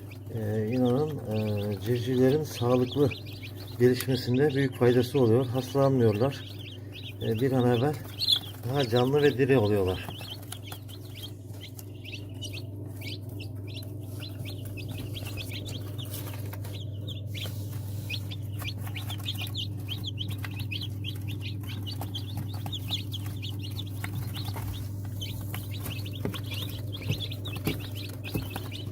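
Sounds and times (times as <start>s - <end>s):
chicks peeping: 0.0s - 28.9s
steady low hum: 0.0s - 28.9s.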